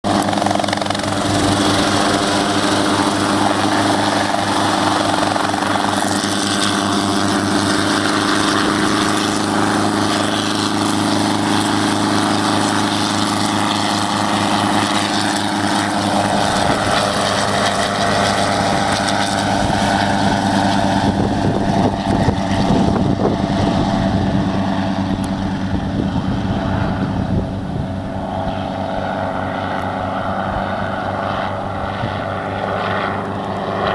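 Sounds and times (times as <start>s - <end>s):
helicopter engine and rotor hum: 0.0s - 33.9s.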